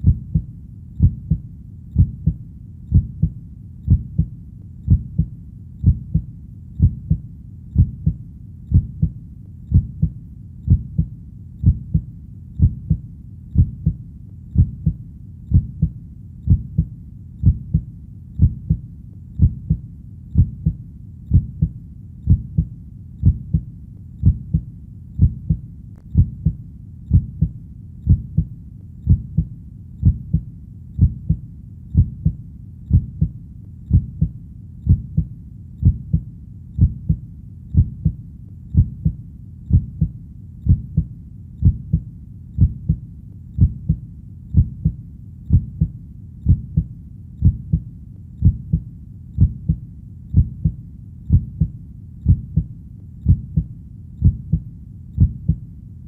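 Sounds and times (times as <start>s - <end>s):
heartbeat: 0.0s - 55.7s.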